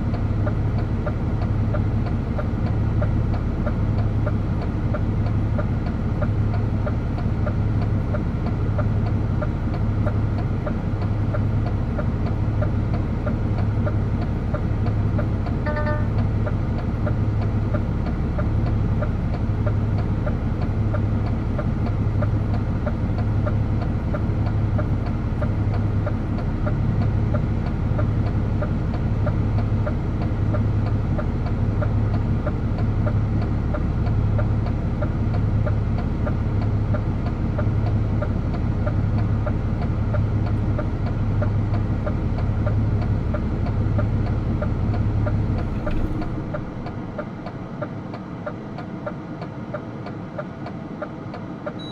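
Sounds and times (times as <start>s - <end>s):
truck diesel engine droning: 0.0s - 51.9s.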